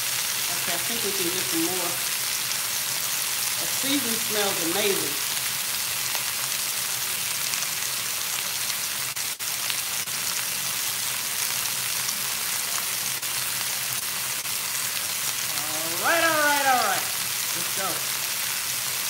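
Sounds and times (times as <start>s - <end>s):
beef sizzling in a skillet: 0.0s - 19.0s.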